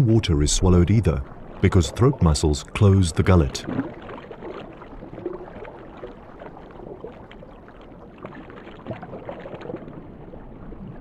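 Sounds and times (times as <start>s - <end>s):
water churning and splashing: 0.0s - 11.0s.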